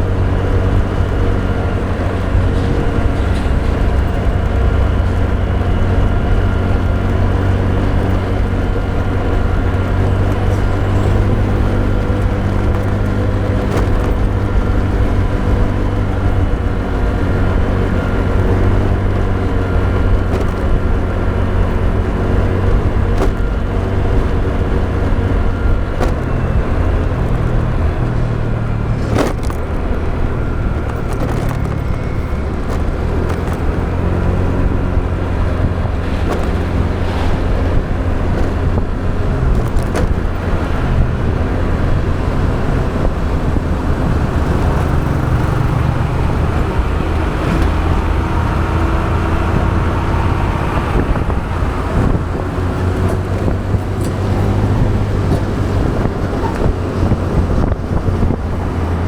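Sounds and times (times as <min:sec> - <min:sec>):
motorbike engine running: 0:00.0 - 0:59.0
road noise: 0:00.0 - 0:59.0
wind: 0:00.0 - 0:59.0.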